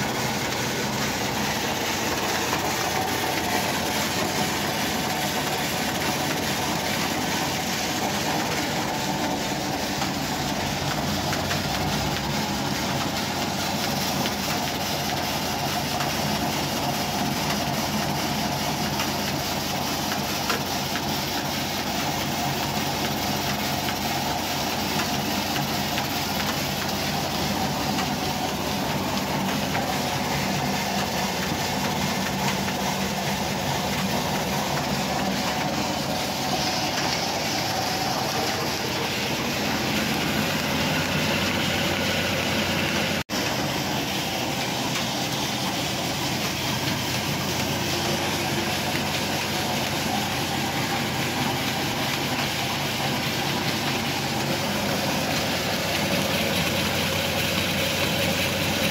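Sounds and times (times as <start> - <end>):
flat belts and pulleys whirring: 0.0 - 58.9
grinding mill turning: 0.0 - 58.9.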